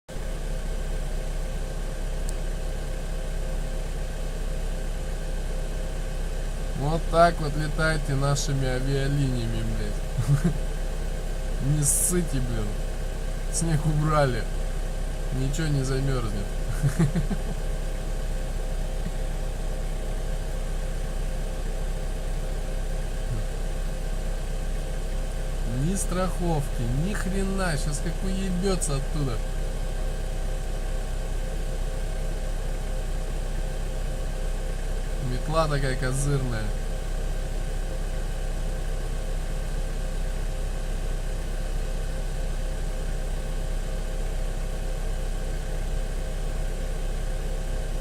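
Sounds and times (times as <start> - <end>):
engine idling: 0.1 - 48.0.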